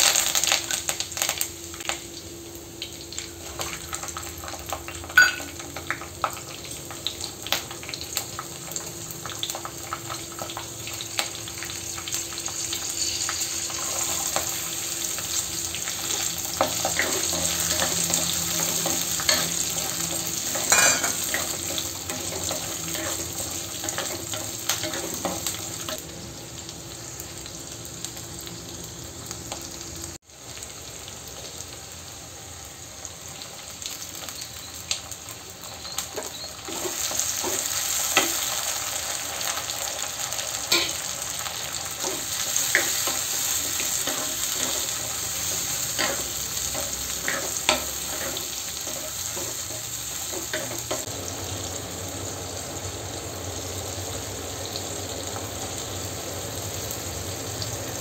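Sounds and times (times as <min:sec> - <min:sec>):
aromatics sizzling in oil: 0:00.0 - 0:58.0.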